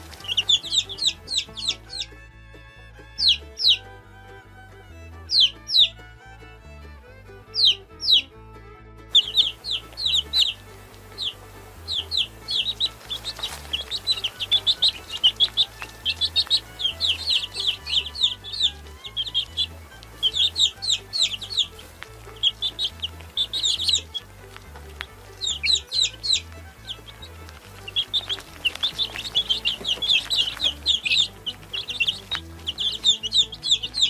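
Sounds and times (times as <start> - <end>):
baby chicks peeping: 0.0 - 2.2, 3.0 - 6.1, 7.4 - 8.3, 9.1 - 34.0
quiet music with pulsing bass: 0.0 - 34.0.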